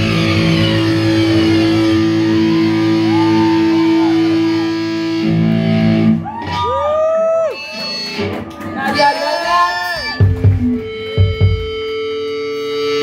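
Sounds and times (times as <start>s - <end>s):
distorted electric guitar bends: 0.0s - 13.0s.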